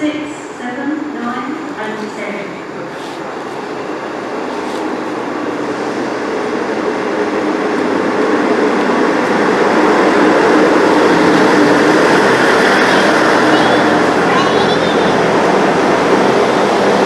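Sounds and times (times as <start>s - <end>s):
passenger train rumble: 0.0s - 17.0s.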